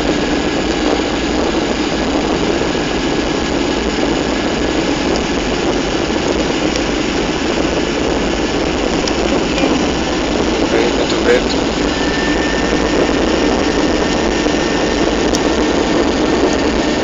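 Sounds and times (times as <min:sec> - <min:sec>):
jet engine and airflow noise: 0:00.0 - 0:17.0.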